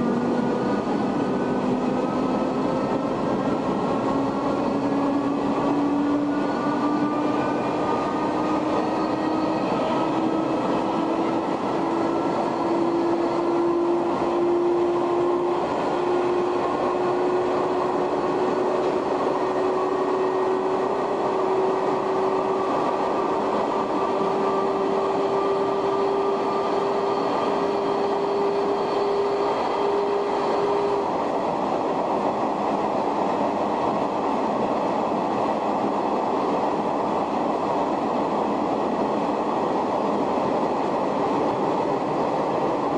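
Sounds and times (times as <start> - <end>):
wheels rumbling on rail: 0.0 - 42.9.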